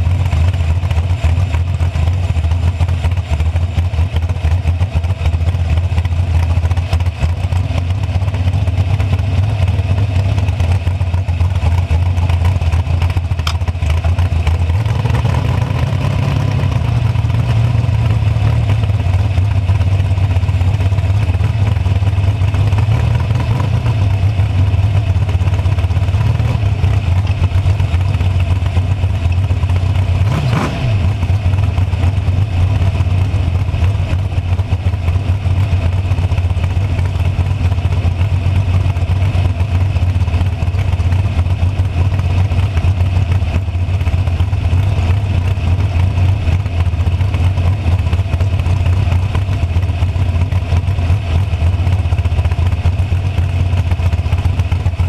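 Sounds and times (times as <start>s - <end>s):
dragster engine running: 0.0s - 55.0s.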